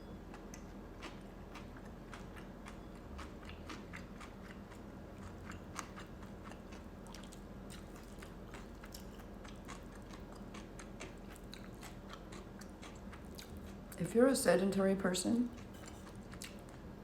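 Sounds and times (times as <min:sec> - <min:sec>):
person chewing food: 0:00.2 - 0:14.0, 0:15.5 - 0:17.0.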